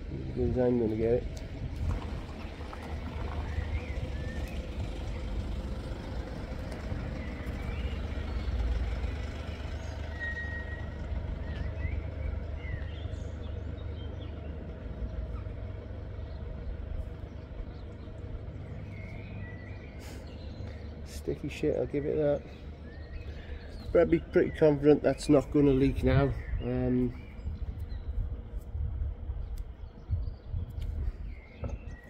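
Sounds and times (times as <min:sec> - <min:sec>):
low background rumble: 0:00.0 - 0:32.0.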